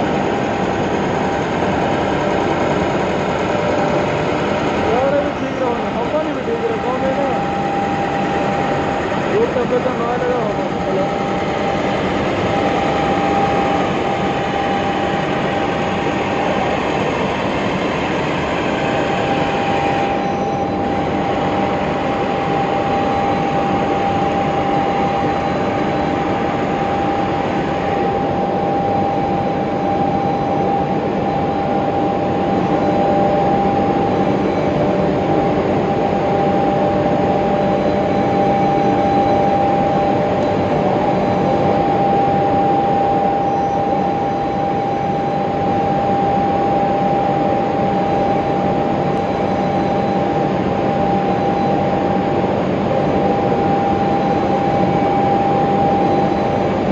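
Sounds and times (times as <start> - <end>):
furnace burners roaring: 0.0 - 56.9
lower whine: 0.0 - 56.9
steady whine: 0.0 - 56.9.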